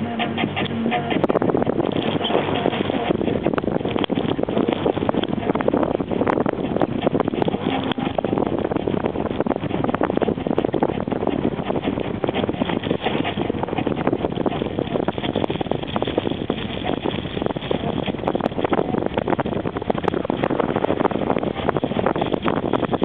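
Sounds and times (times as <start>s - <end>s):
constant rough crackle: 0.0s - 23.0s
road and wind noise in car: 0.0s - 23.0s.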